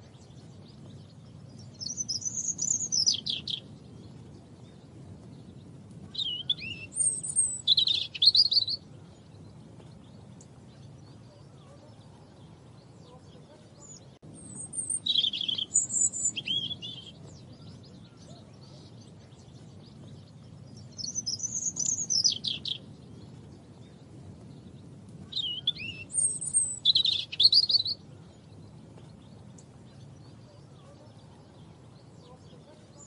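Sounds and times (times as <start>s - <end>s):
robin warbling song: 0.0s - 4.7s, 6.0s - 9.4s, 10.2s - 24.1s, 25.2s - 33.0s
faint low background rumble: 0.0s - 33.0s.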